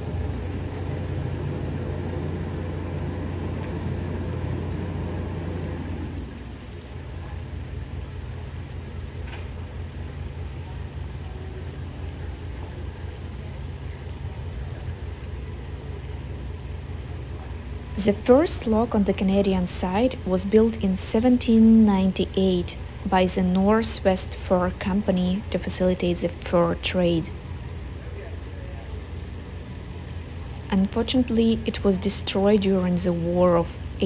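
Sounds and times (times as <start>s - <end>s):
boat engine rumble: 0.0s - 34.0s.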